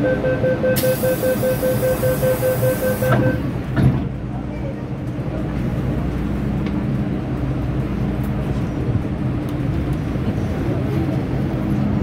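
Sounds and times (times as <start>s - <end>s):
train wheels rumbling on rails: 0.8s - 12.0s.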